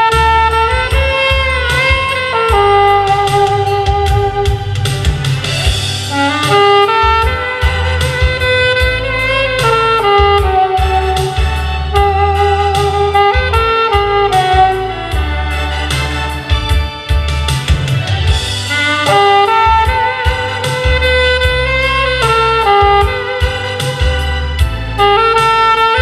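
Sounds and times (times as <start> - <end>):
backing track with bass and drums: 0.0 - 26.0
slow saxophone melody: 0.0 - 26.0.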